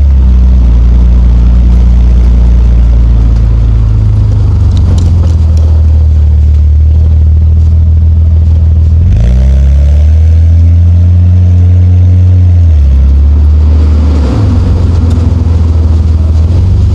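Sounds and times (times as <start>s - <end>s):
turbocharged car engine running: 0.0s - 16.9s.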